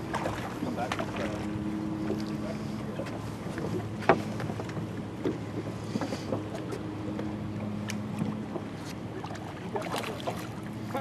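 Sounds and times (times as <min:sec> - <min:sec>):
boat motor humming: 0:00.0 - 0:11.0
light wind: 0:00.0 - 0:11.0
water noise: 0:00.0 - 0:11.0.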